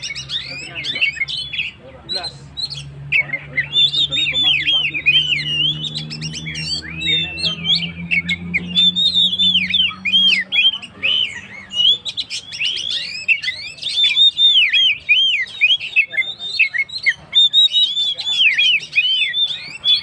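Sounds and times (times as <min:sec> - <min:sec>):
bird singing whistled phrases: 0:00.0 - 0:20.0.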